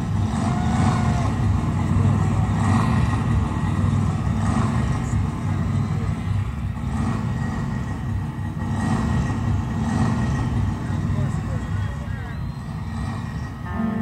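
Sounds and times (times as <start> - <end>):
concert crowd noise: 0.0 - 14.0
heavy low rumble: 0.0 - 14.0.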